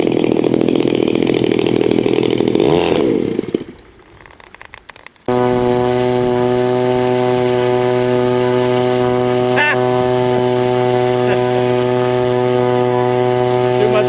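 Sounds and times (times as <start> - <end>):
model airplane motor droning: 0.0 - 14.0.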